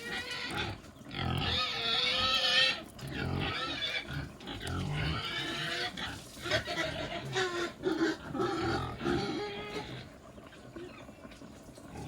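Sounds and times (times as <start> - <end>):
pigs squealing and grunting: 0.0 - 11.2.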